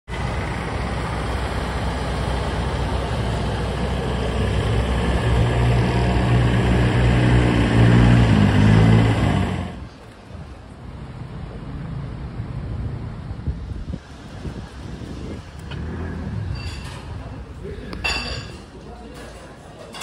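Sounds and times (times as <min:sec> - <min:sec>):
tractor engine humming: 0:00.1 - 0:18.1
background noise wash: 0:00.1 - 0:19.9.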